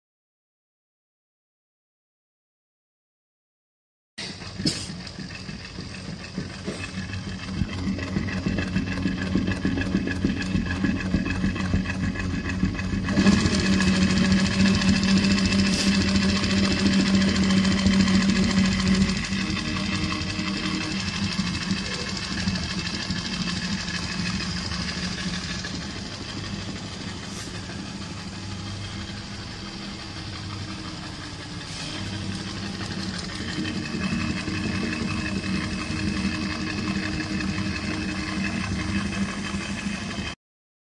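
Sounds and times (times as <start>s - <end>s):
sewing machine running: 4.2s - 40.4s.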